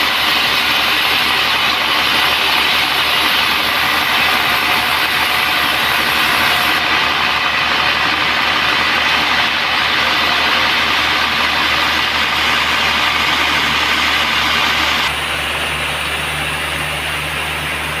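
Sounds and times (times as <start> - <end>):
band sawmill running: 0.0 - 18.0.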